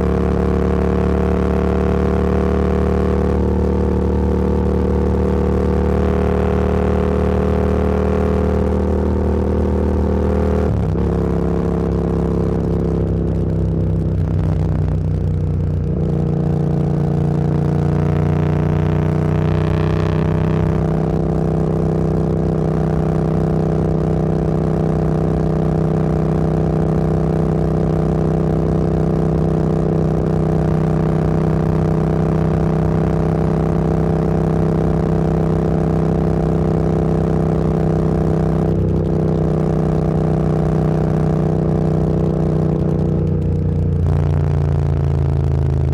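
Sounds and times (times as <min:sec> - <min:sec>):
road noise: 0:00.0 - 0:00.6, 0:02.5 - 0:45.9
motorcycle engine while riding: 0:00.0 - 0:45.9.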